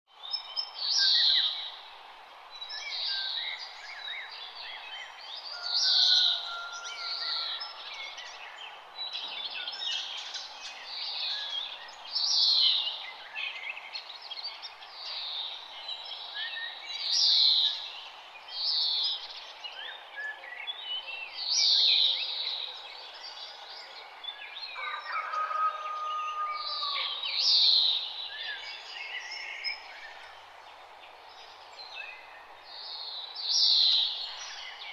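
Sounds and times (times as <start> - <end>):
loud bird song phrase: 2.6 - 34.9.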